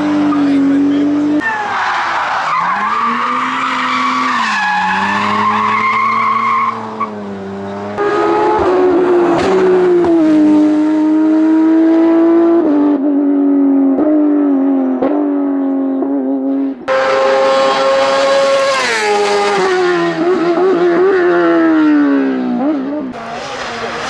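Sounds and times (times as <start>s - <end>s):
race car engine at high revs: 0.0s - 24.0s.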